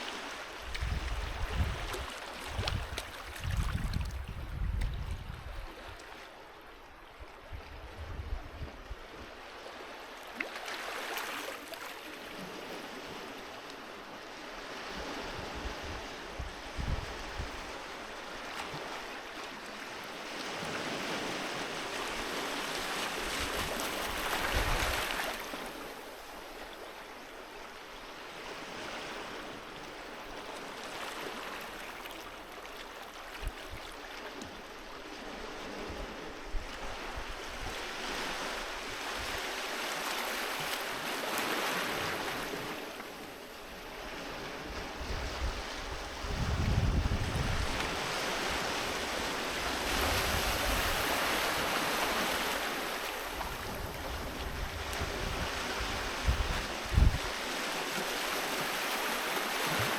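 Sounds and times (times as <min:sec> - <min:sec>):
sea waves washing onto beach: 0:09.3 - 0:59.9.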